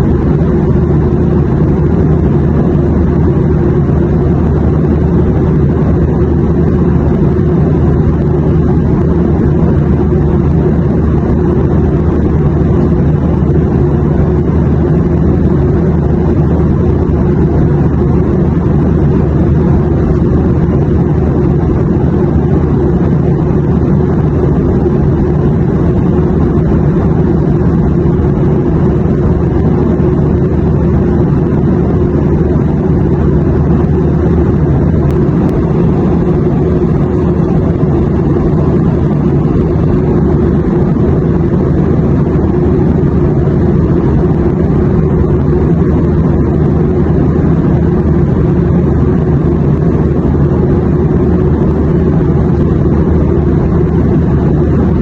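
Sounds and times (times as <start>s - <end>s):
airplane drone: 0.0s - 55.0s.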